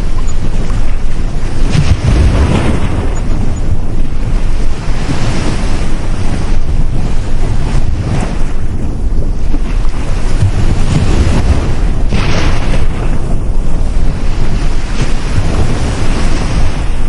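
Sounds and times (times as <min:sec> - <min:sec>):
sea waves breaking on beach: 0:00.0 - 0:17.0
wind rumbling on microphone: 0:00.0 - 0:17.0.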